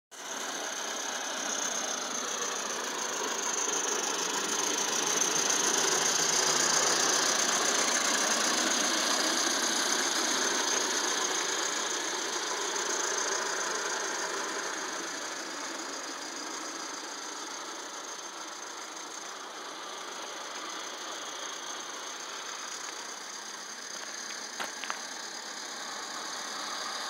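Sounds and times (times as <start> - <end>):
steam locomotive running: 0.2 - 27.0.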